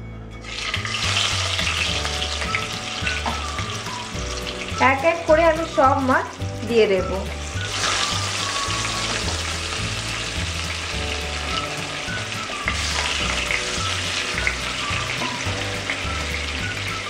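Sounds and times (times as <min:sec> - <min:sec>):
fish sizzling in hot oil: 0:00.4 - 0:17.0.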